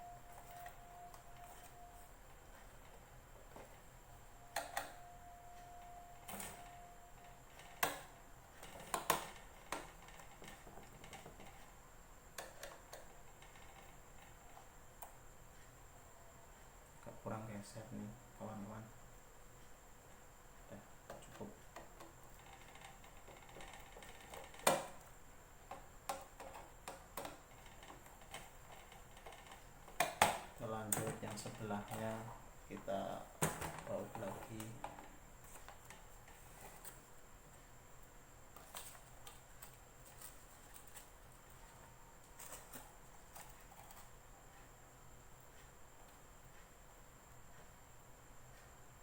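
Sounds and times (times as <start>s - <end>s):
room hum: 0.0s - 49.0s.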